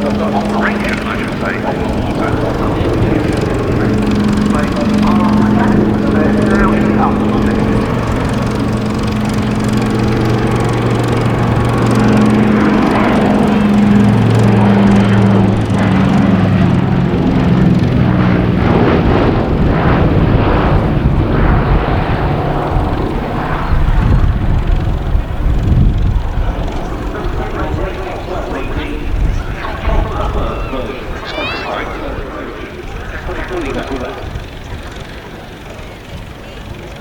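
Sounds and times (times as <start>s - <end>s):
propeller aircraft engines droning: 0.0s - 37.0s.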